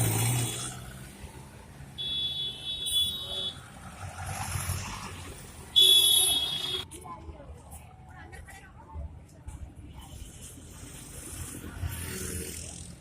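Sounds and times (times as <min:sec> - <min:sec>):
street traffic rumbling: 0:00.0 - 0:13.0.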